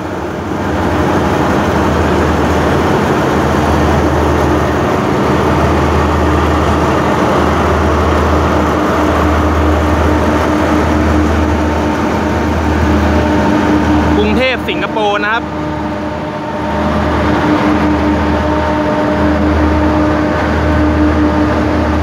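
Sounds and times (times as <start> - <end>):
diesel locomotive drone: 0.0 - 22.0
train coaches rolling past: 0.0 - 22.0.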